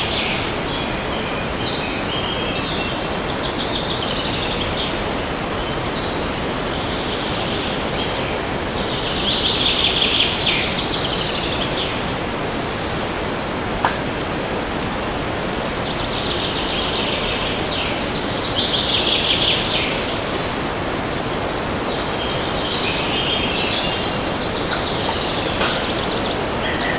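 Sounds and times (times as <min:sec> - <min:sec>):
birds singing: 0:00.0 - 0:26.9.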